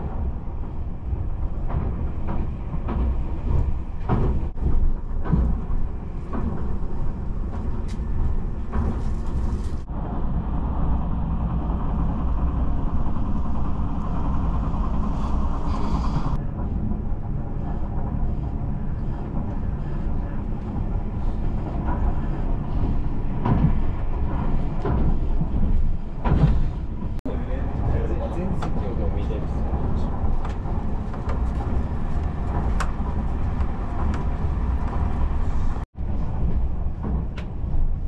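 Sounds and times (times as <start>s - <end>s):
train cabin rumble: 0.0s - 38.0s.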